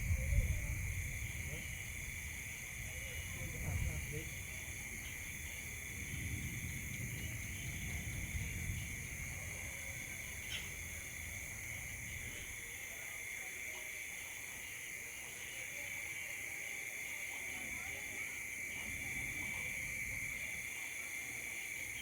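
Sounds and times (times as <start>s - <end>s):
night insects chirping: 0.0s - 22.0s.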